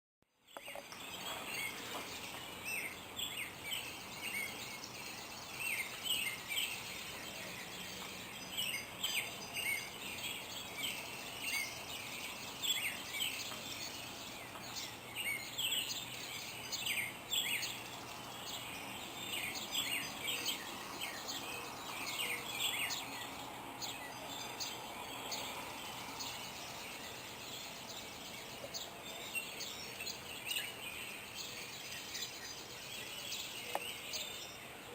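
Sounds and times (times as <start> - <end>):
outdoor background hiss: 0.2 - 34.9
birds chirping: 0.3 - 34.9.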